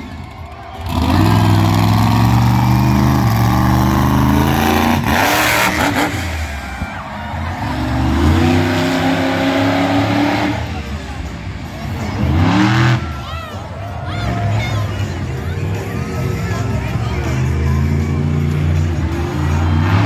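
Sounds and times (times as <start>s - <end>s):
truck engine at full throttle: 0.0s - 20.0s.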